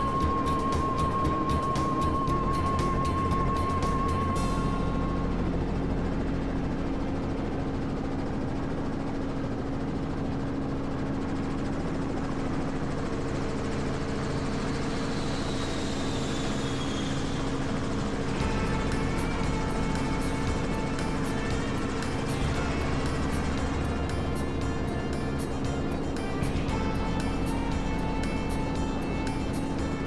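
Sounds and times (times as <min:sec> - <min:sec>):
helicopter rotor and engine drone: 0:00.0 - 0:30.0.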